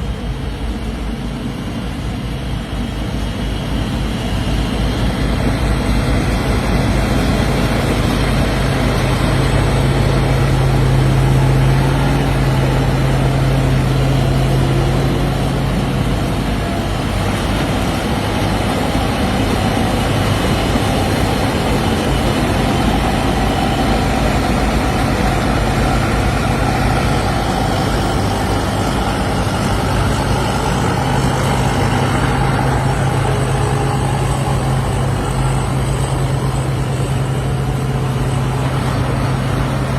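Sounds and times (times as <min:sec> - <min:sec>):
diesel engine low hum: 0:00.0 - 0:39.9
machinery noise: 0:00.0 - 0:39.9.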